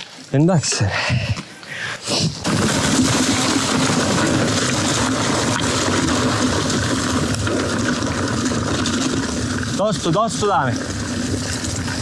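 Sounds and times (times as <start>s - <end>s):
bike tyres rolling over dirt: 0.0s - 0.8s, 2.2s - 12.0s.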